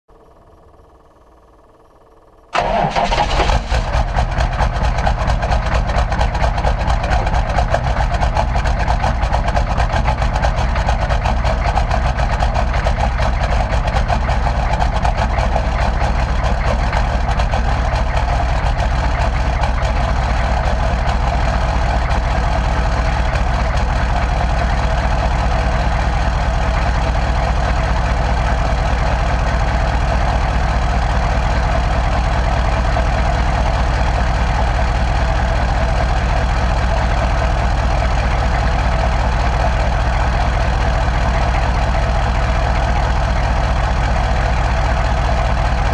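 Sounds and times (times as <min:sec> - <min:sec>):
diesel engine starting: 0:01.6 - 0:45.9
loud diesel engine idling: 0:02.4 - 0:45.9.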